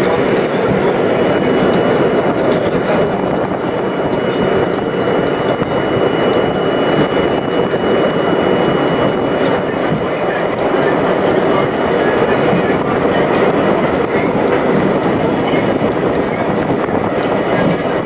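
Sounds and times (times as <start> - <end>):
subway train rumbling through tunnel: 0.0 - 18.0
thin high whine: 0.0 - 18.0.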